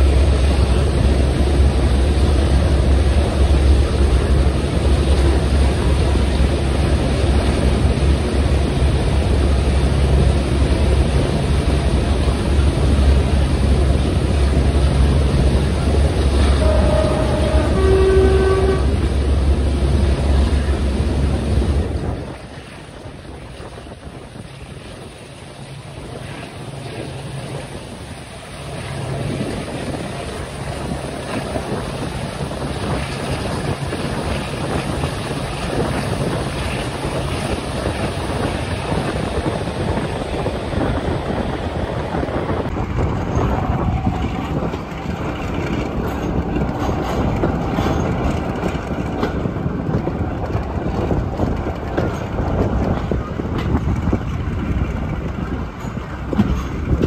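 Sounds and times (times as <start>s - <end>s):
train wheels rumbling on rails: 0.0s - 57.0s
wind buffeting microphone: 0.0s - 57.0s.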